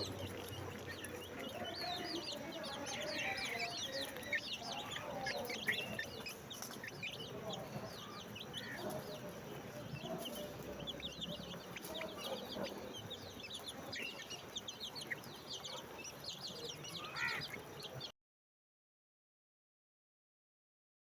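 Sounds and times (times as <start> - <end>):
baby chicks peeping: 0.0 - 18.1.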